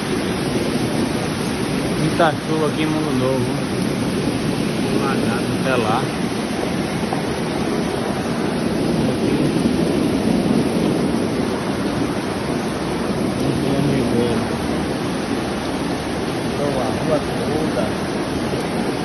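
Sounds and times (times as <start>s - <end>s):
floodwater rushing through street: 0.0s - 19.0s
heavy rain downpour: 0.0s - 19.0s.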